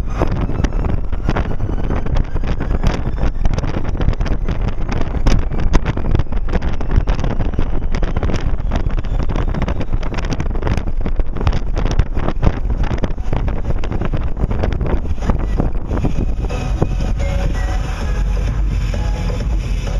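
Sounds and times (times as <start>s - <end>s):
car driving rumble: 0.0s - 19.9s
gusty thumps: 0.0s - 19.9s
wind buffeting microphone: 0.0s - 19.9s.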